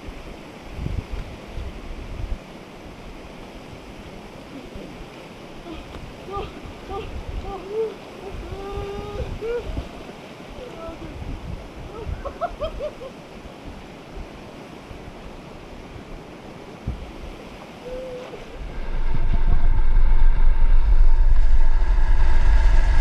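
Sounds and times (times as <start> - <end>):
wind buffeting microphone: 0.6 - 4.2, 5.0 - 23.0.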